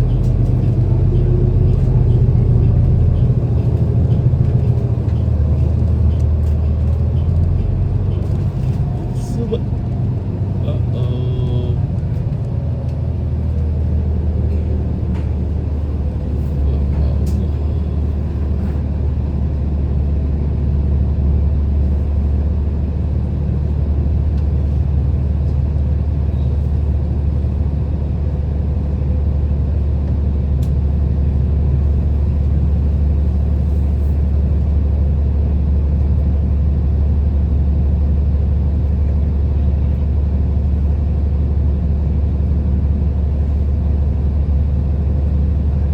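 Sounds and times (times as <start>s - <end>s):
bus engine rumble: 0.0s - 45.9s.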